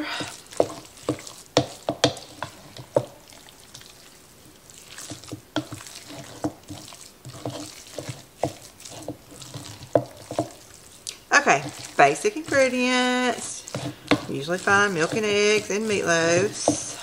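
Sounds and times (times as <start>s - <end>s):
wet squelching: 0.0s - 17.0s.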